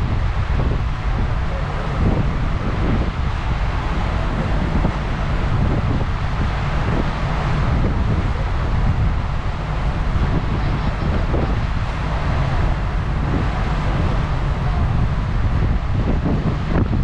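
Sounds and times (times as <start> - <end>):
rushing air and water: 0.0 - 17.0
wind buffeting microphone: 0.0 - 17.0.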